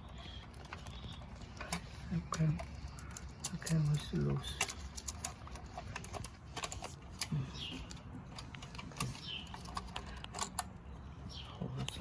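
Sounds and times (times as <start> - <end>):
small metallic rattles: 0.2 - 12.0.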